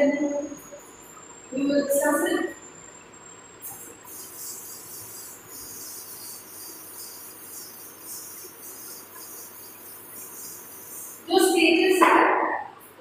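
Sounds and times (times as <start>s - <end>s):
insects chirping in a trill: 0.0s - 13.0s.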